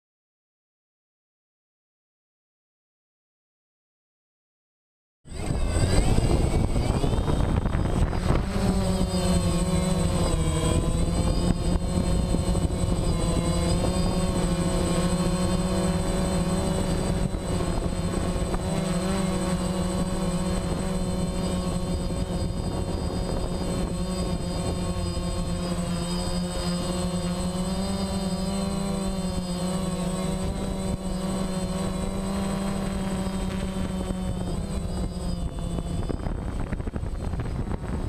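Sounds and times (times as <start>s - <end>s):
helicopter motor buzzing whine: 5.3s - 38.0s.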